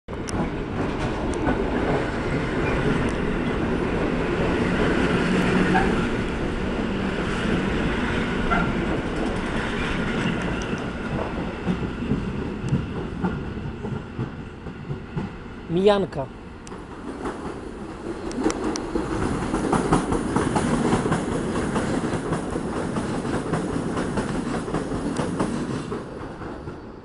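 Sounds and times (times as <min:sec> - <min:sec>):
train wheels rumbling on rails: 0:00.1 - 0:27.0.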